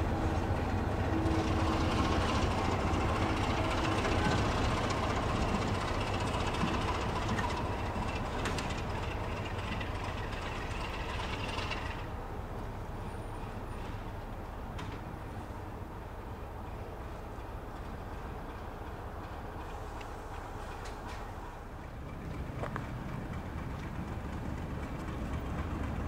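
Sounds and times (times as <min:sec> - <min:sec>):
locomotive engine and wheels rumbling: 0:00.0 - 0:26.0
wheels clicking on track: 0:00.0 - 0:26.0.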